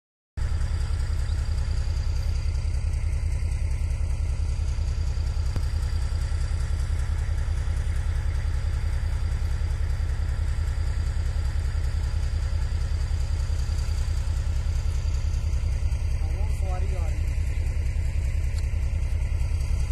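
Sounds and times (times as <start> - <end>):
engine idling: 0.4 - 19.9.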